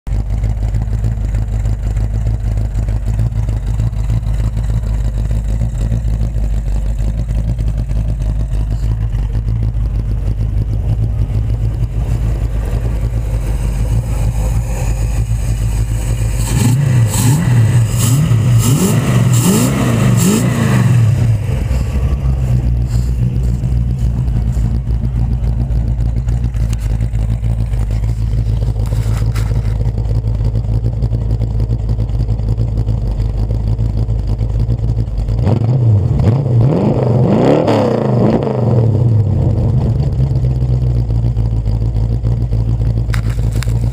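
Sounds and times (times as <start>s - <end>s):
car engine idling and revving: 0.1s - 43.9s.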